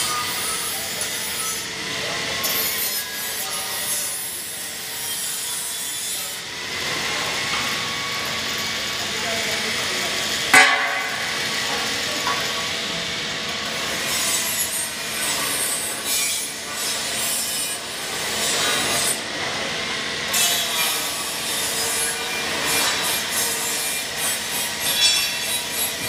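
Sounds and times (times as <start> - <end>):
conveyor rasping mechanical noise: 0.0 - 26.0
faint machine hum: 0.0 - 26.0.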